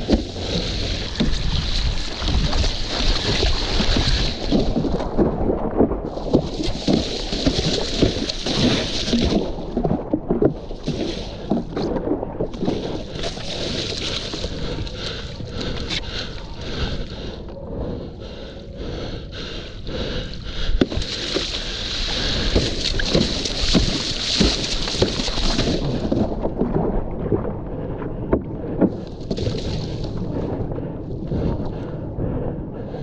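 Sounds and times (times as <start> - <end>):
paddle strokes knocking: 0.0 - 17.2, 20.6 - 27.5, 28.1 - 30.6
wind on microphone: 0.0 - 19.0, 19.8 - 33.0
water sloshing and splashing: 0.0 - 33.0.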